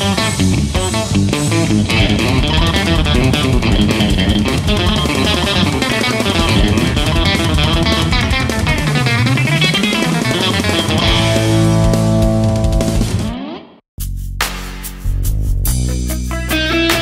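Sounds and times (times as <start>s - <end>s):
electric guitar fast run: 0.0s - 13.8s.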